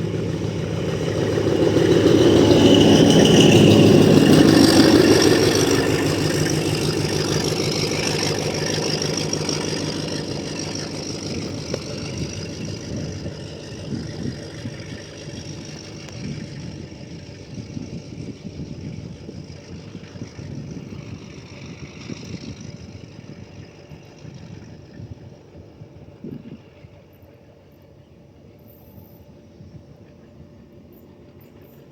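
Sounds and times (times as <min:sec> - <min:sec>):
diesel locomotive engine: 0:00.0 - 0:31.9.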